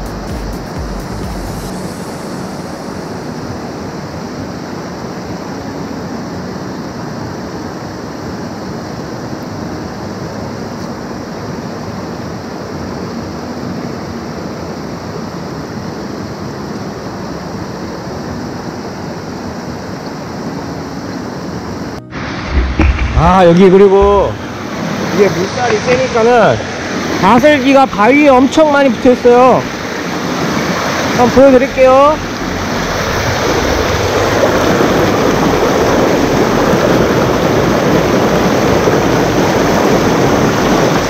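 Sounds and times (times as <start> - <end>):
stream pouring over weir: 1.7 - 41.0.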